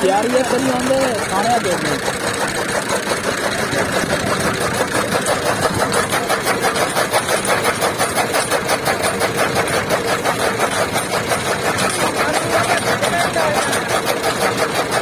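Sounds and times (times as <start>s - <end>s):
chaff cutter pulsing: 0.0s - 15.0s
tractor diesel engine running: 0.0s - 15.0s.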